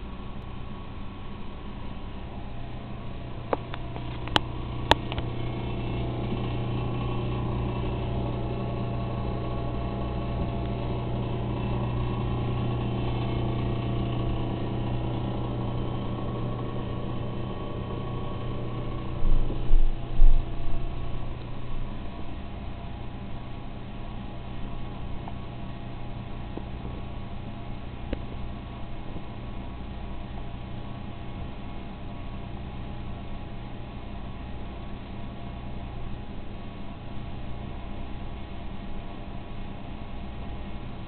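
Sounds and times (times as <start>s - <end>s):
refrigerator humming: 0.0s - 41.0s.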